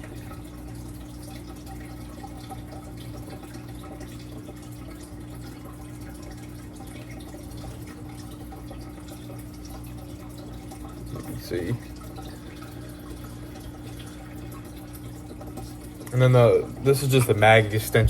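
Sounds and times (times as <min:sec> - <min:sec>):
low even hum: 0:00.0 - 0:18.0.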